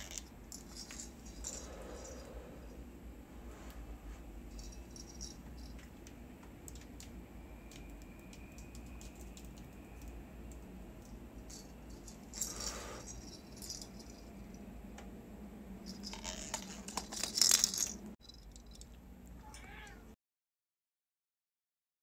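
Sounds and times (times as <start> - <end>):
low steady hum: 0.0 - 20.2.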